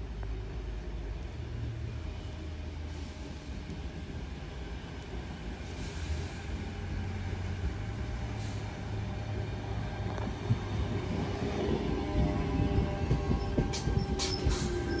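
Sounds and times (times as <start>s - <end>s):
electric train pulling in: 0.6s - 15.0s.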